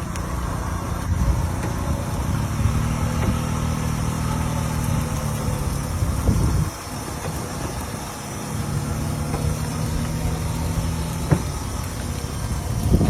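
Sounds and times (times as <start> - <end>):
steady droning note: 0.0 - 13.0
tractor engine running: 0.0 - 13.0.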